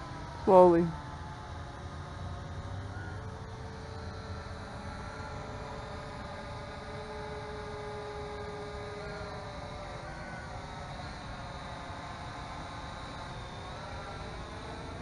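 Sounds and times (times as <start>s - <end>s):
electric motors and propellers humming: 0.0s - 15.0s.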